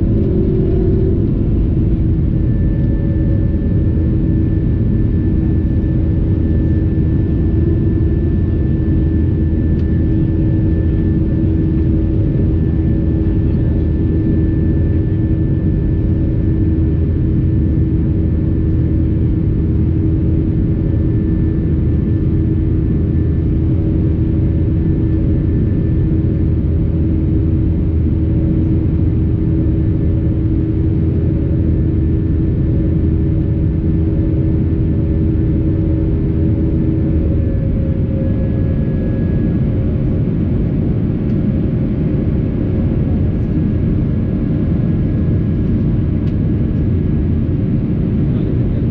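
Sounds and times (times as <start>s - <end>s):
constant hums: 0.0s - 48.9s
jet engines running: 0.0s - 48.9s.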